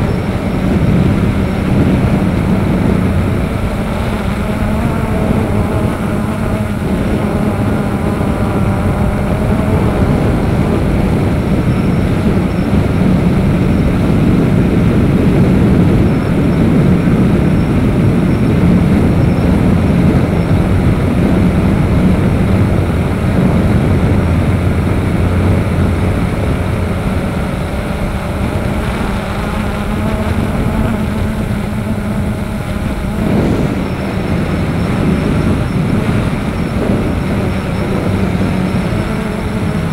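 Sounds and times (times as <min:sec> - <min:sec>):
drone motors whining: 0:00.0 - 0:39.9
wind rushing on microphone: 0:00.0 - 0:39.9.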